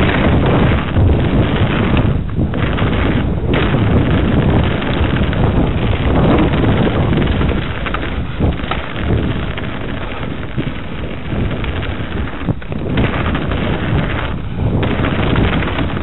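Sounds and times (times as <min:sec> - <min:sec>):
wind rush on microphone: 0:00.0 - 0:16.0.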